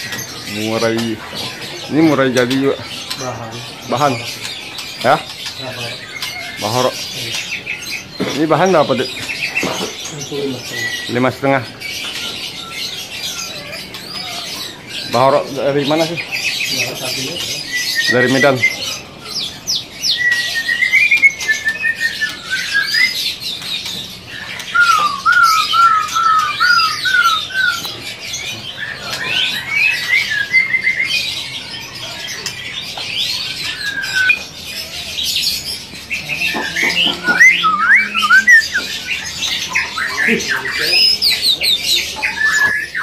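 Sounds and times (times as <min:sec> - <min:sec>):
songbirds singing and calling: 0:00.0 - 0:43.0.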